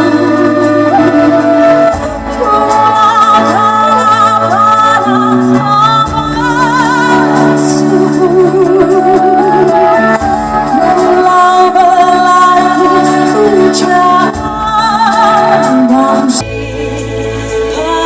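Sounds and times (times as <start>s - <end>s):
band accompaniment: 0.0s - 18.0s
person singing with vibrato: 0.0s - 18.0s.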